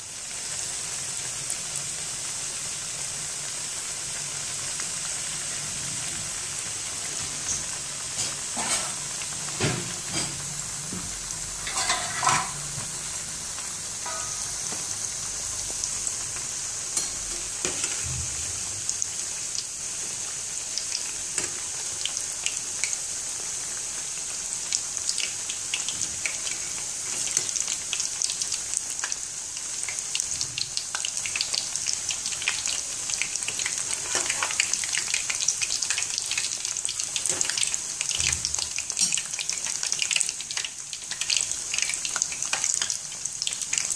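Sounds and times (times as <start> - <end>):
frying in hot oil sizzling: 0.0 - 43.9.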